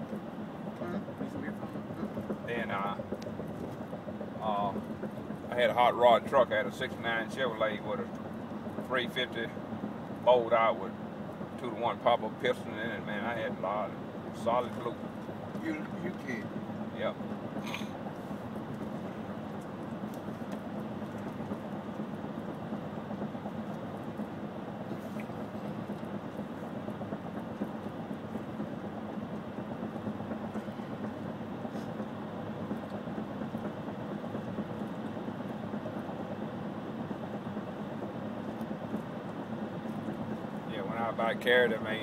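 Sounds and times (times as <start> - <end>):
car cabin road and engine noise: 0.0 - 42.0
low hum: 0.0 - 42.0.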